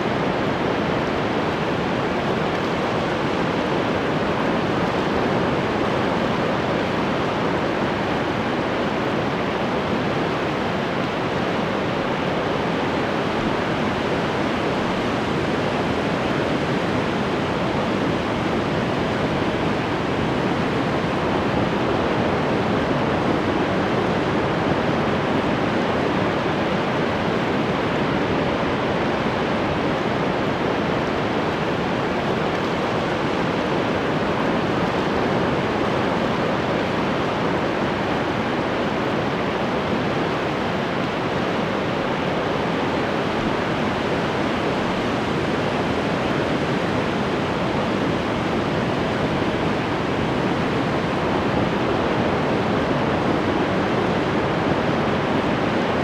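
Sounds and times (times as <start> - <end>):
ocean surf washing in: 0.0 - 21.6, 23.6 - 53.1.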